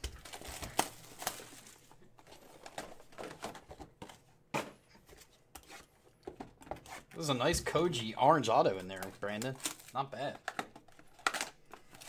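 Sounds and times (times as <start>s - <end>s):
cardboard rustling: 0.0s - 12.0s.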